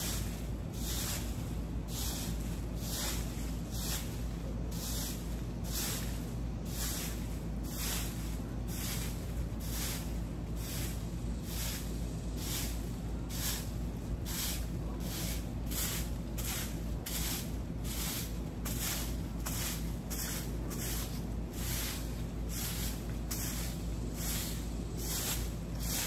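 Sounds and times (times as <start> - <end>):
broom sweeping leaves: 0.0 - 26.0.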